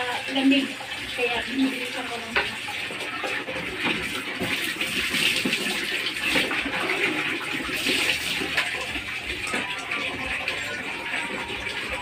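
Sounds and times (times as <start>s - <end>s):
water splashing on tiled floor: 0.0s - 12.0s.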